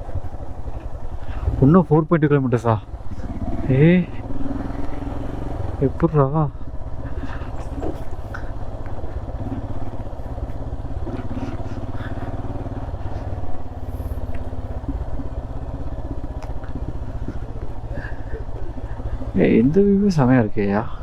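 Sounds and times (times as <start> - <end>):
single-cylinder engine running: 0.0 - 21.0.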